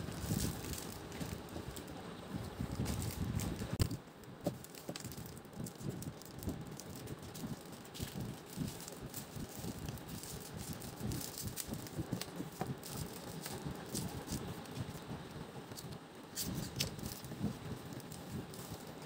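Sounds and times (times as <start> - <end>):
plastic packaging crinkling: 0.0 - 15.0, 15.7 - 19.0.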